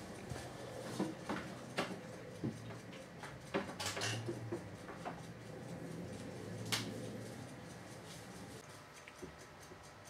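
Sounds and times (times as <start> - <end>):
sharp irregular clicks: 1.2 - 10.0.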